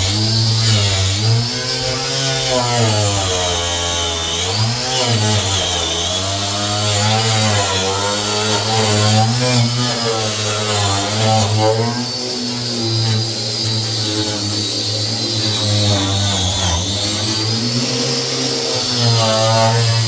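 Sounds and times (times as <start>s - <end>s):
power tool motor: 0.0s - 20.0s.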